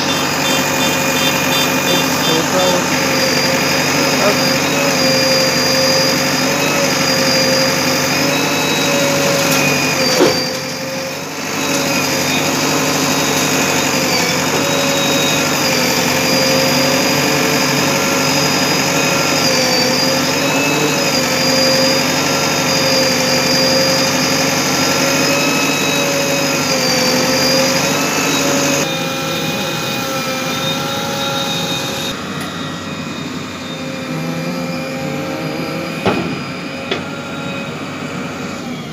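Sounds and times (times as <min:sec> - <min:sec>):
backhoe loader engine whine: 0:00.0 - 0:38.9.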